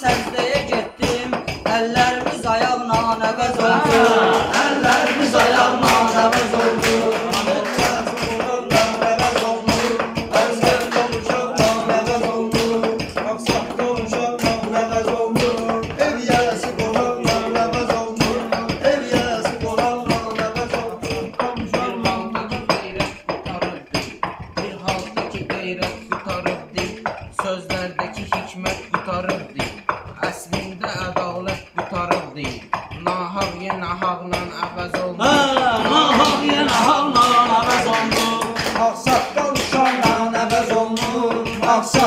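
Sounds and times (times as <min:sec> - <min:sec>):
fast percussive beat: 0:00.0 - 0:42.0
man chanting rhyming verse: 0:00.0 - 0:42.0.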